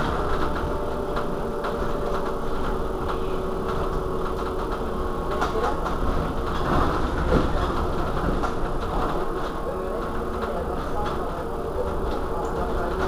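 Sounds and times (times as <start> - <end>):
electric bus humming: 0.0 - 13.0.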